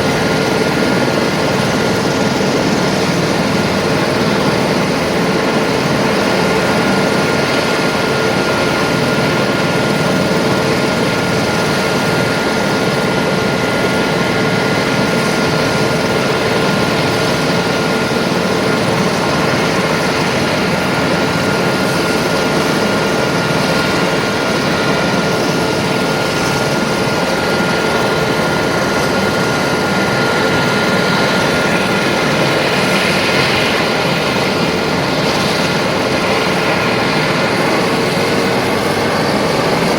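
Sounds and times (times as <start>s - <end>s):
helicopter engine and rotor: 0.0s - 39.9s
high turbine whine: 0.0s - 39.9s.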